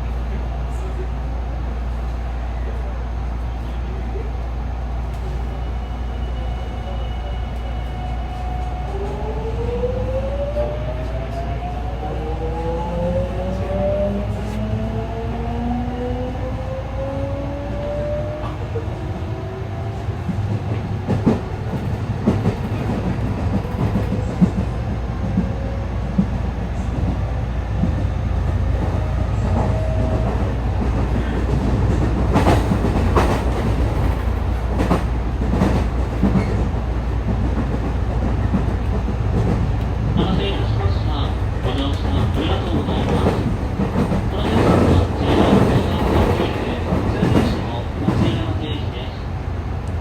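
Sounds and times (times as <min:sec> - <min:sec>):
train running rumble: 0:00.0 - 0:50.0.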